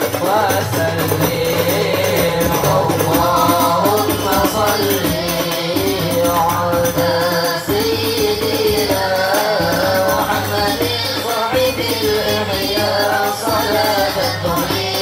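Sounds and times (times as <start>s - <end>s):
boys singing into microphones: 0.0s - 15.0s
frame drums with jingling rattle: 0.0s - 15.0s.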